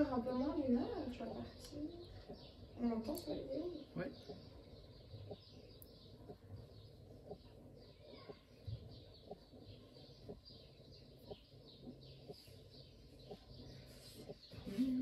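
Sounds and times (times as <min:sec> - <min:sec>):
faint small birds chirping: 0:00.0 - 0:15.0.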